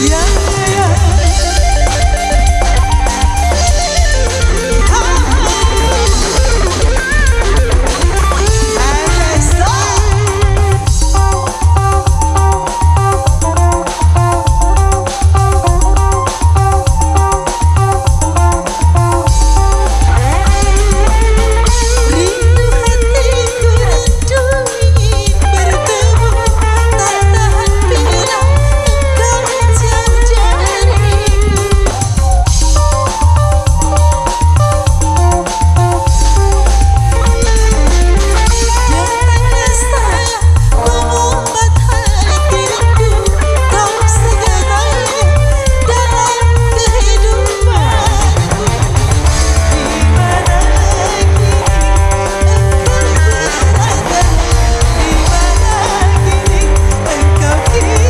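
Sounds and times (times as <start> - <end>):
bending melody lead: 0.0 - 58.0
drums and heavy bass: 0.0 - 58.0
live band music: 0.0 - 58.0.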